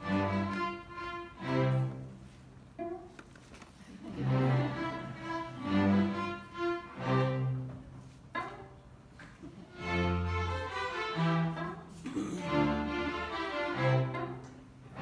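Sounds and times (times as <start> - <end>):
string orchestra playing chords: 0.0 - 2.5, 4.0 - 8.1, 9.6 - 15.0.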